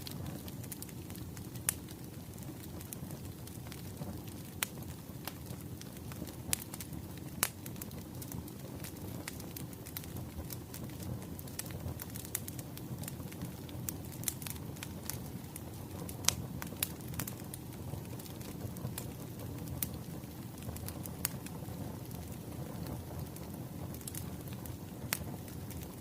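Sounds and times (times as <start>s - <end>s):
firewood crackling: 0.0s - 26.0s.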